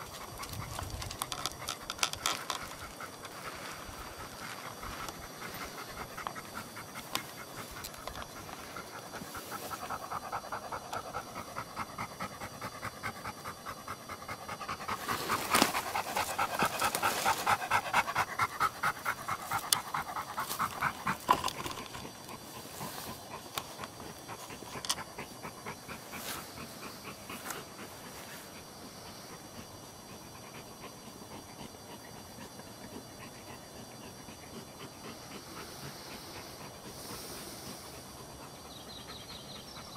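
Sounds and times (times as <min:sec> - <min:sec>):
dog panting: 0:00.0 - 0:39.9.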